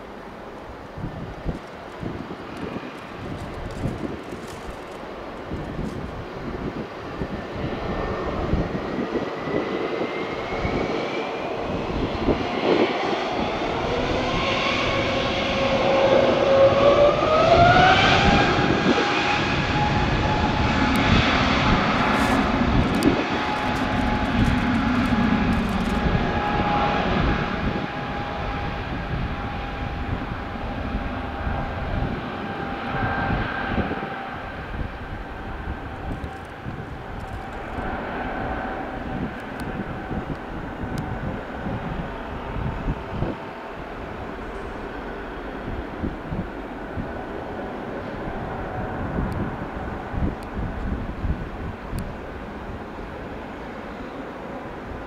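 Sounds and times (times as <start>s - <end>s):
rising engine whine: 0.0s - 55.0s
jet engines spooling up: 1.0s - 51.3s.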